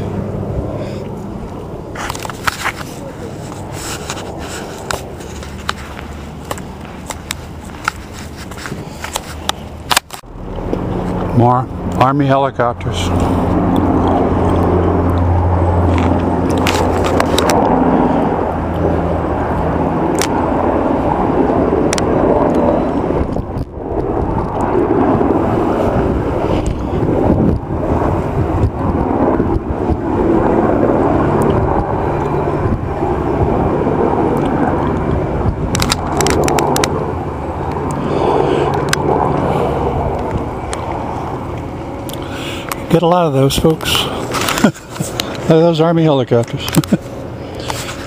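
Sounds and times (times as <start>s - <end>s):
low hum: 0.0s - 48.0s
vehicle rumbling: 0.0s - 48.0s.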